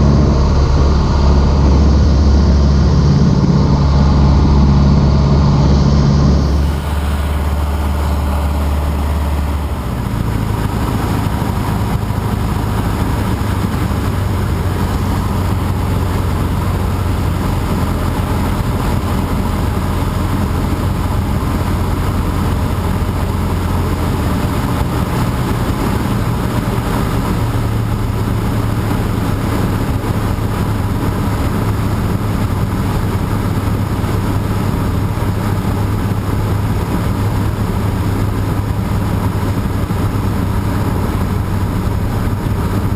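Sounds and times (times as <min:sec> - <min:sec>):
airplane engine and propeller droning: 0:00.0 - 0:42.9.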